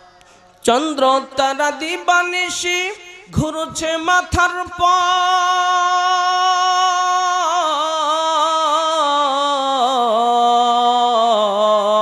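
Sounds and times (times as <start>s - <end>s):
man singing devotional song: 0.1s - 12.0s.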